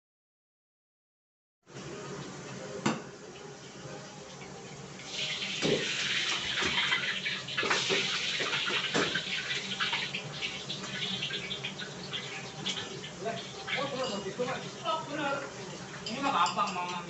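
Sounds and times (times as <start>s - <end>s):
water tap running: 1.8s - 16.7s.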